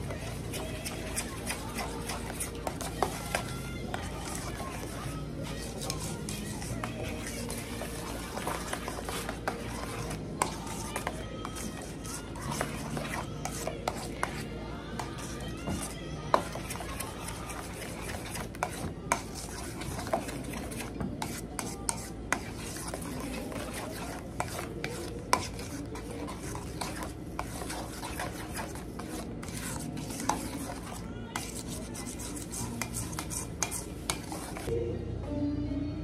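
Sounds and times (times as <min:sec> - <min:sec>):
spoon scraping metal bowl: 0:00.0 - 0:34.7.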